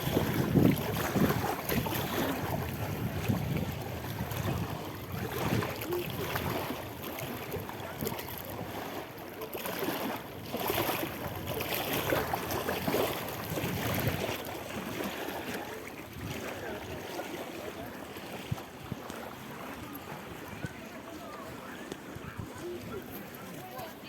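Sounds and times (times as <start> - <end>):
sea water washing: 0.0 - 24.0
wind: 0.0 - 24.0.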